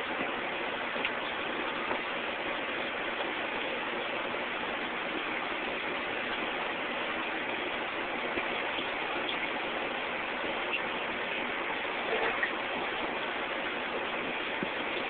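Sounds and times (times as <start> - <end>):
aquarium water bubbling: 0.0 - 15.0.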